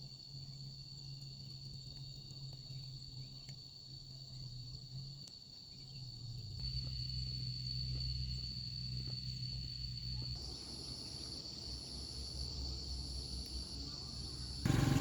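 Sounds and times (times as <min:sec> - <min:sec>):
insects trilling: 0:00.2 - 0:15.0.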